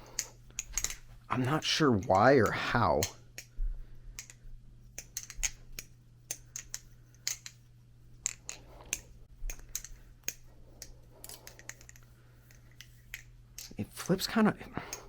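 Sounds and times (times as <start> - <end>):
butterfly knife handles clicking: 0.0 - 3.6, 4.2 - 4.4, 5.0 - 7.6, 8.2 - 13.8.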